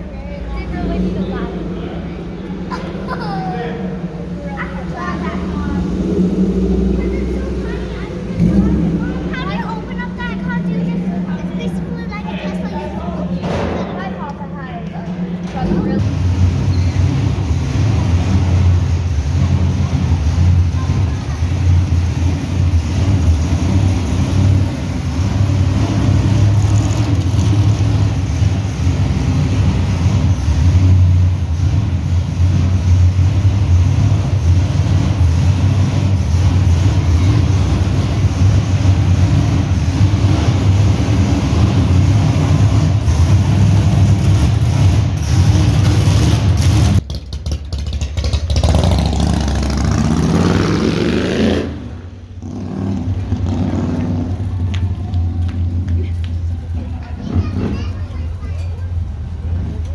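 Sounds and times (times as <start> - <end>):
vehicle engine deep rumble: 0.0 - 59.9.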